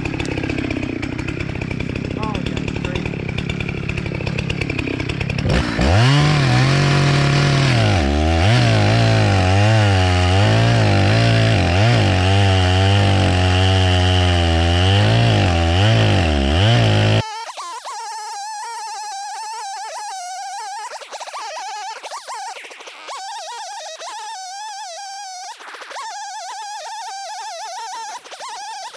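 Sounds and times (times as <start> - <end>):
chainsaw cutting into tree: 0.0 - 28.9.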